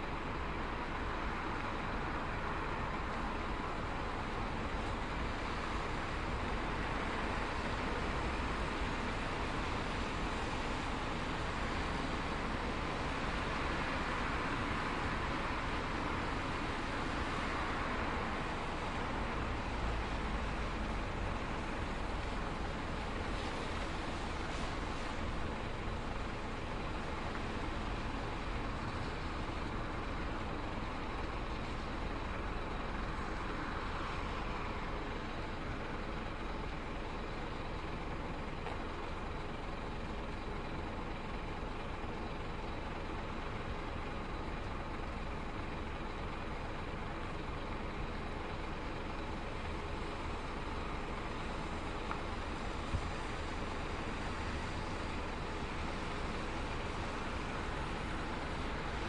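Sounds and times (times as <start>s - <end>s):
bus engines rumbling: 0.0s - 59.0s.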